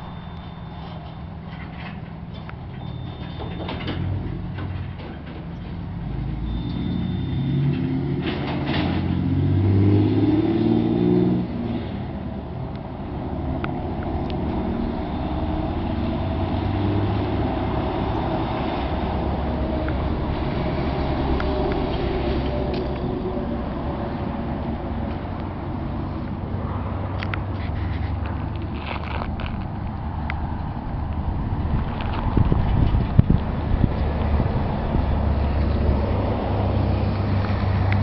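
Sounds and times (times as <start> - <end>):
motor vehicle engine drone: 0.0 - 38.0.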